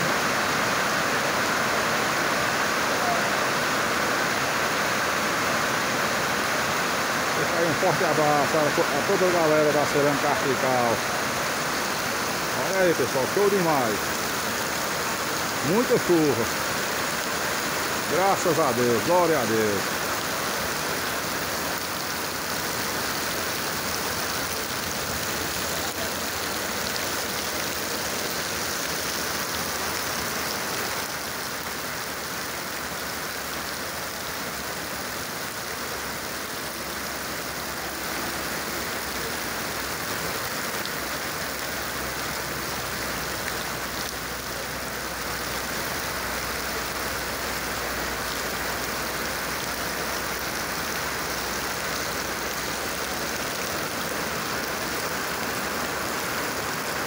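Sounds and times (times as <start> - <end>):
heavy rain falling: 0.0 - 57.0
running water: 0.0 - 57.0.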